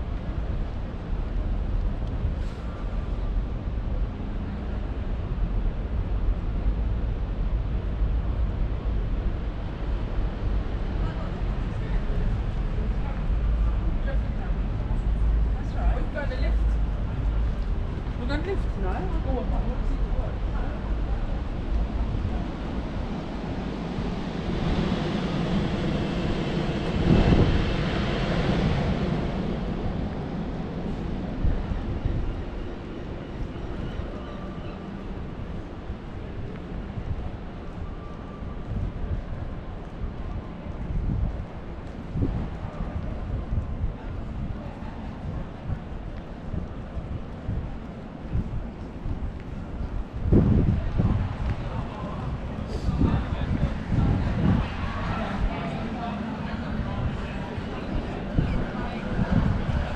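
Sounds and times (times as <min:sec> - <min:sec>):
low city rumble: 0:00.0 - 0:59.9.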